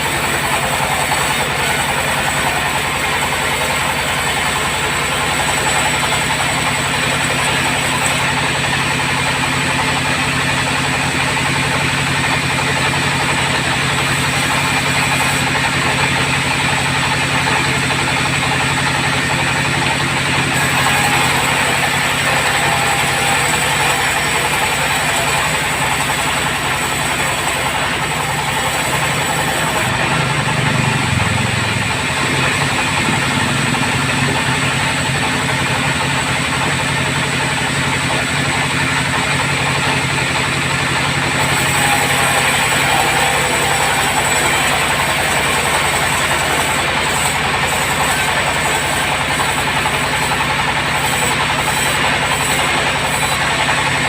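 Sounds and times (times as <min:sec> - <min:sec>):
band sawmill drone: 0:00.0 - 0:54.0.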